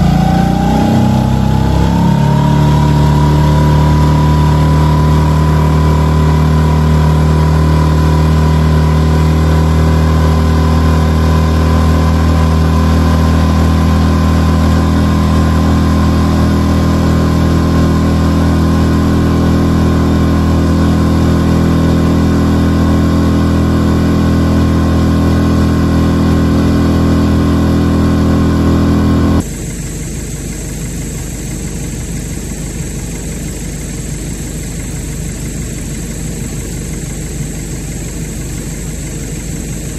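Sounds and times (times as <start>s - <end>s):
distant engine: 0.0s - 39.9s
outboard motor running: 0.0s - 39.9s.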